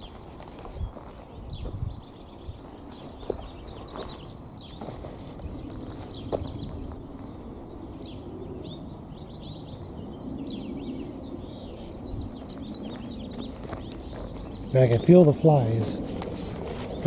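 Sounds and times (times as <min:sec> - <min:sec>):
low outdoor background noise: 0:00.0 - 0:17.0
small songbirds chirping: 0:00.0 - 0:17.0.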